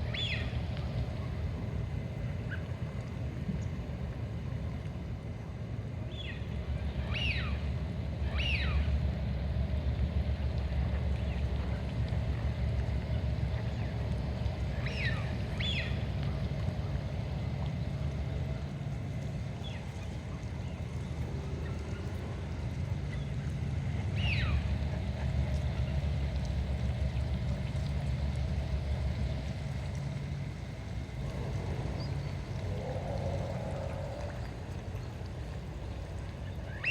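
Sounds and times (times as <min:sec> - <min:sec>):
wind and water rumble: 0:00.0 - 0:36.9.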